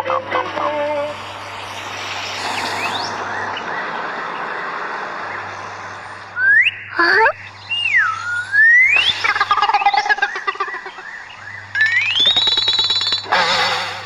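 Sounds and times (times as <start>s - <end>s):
sliding whistle-like tones: 0.0s - 4.0s, 6.3s - 14.0s
noisy rumble: 0.0s - 14.0s.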